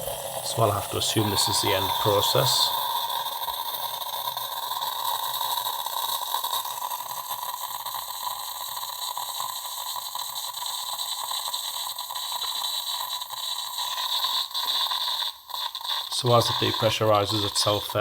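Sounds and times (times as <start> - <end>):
coffee machine hissing and gurgling: 0.0 - 18.0.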